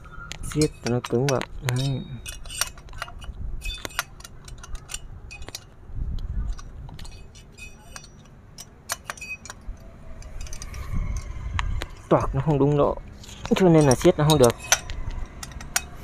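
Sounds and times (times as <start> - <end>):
metal tools clinking: 0.0 - 16.0.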